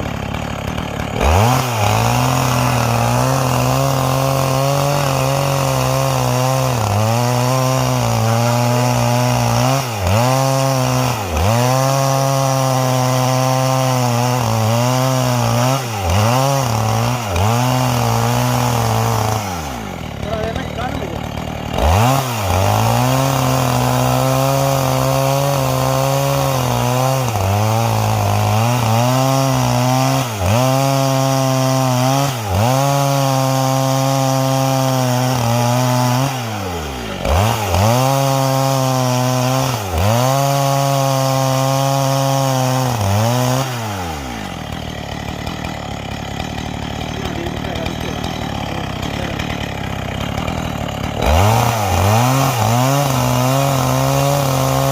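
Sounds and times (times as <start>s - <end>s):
chainsaw cutting through log: 0.0s - 54.9s.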